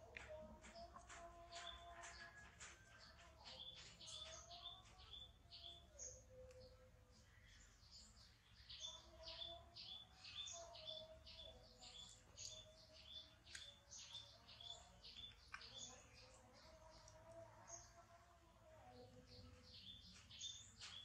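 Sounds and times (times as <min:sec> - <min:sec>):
bird chirping: 0:00.0 - 0:18.1, 0:18.8 - 0:21.0.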